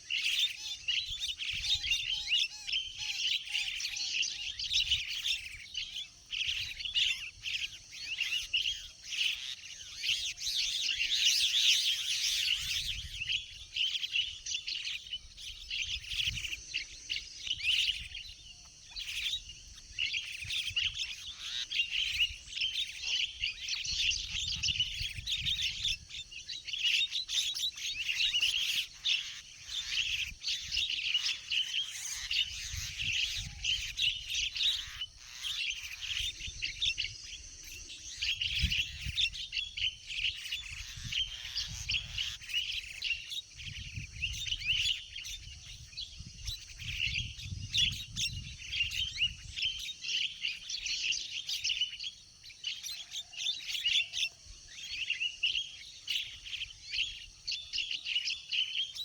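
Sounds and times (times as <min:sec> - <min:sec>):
birds chattering and chirping: 0:00.0 - 0:59.0.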